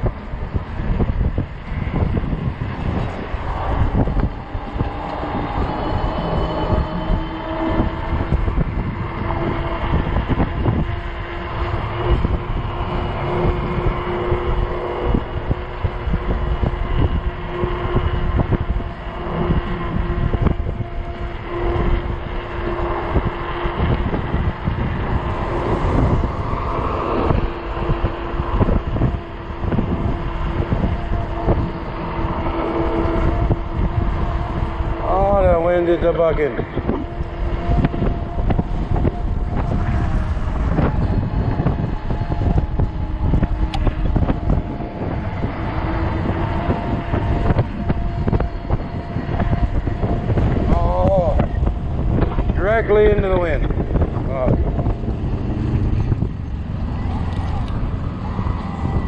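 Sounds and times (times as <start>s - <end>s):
electric hub motor whine: 0.0s - 59.0s
fat tires rumbling: 0.0s - 59.0s
wind buffeting microphone: 0.0s - 59.0s.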